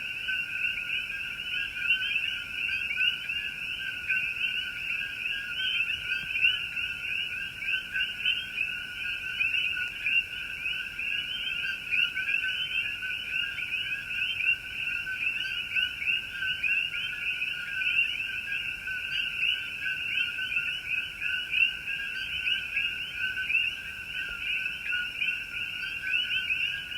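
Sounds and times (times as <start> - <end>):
chorus of frogs calling: 0.1 - 26.9.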